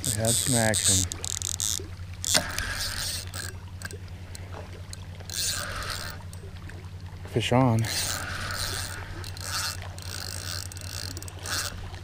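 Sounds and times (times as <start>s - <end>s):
fishing reel rattling and clicking: 0.0s - 6.5s, 7.7s - 12.0s.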